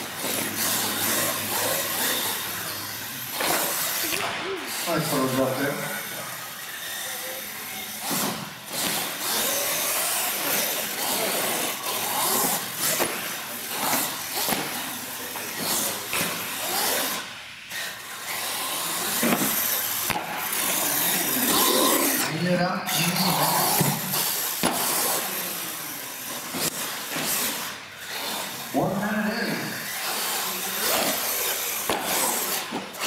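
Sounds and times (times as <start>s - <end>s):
toy truck motor whining: 0.0s - 33.0s.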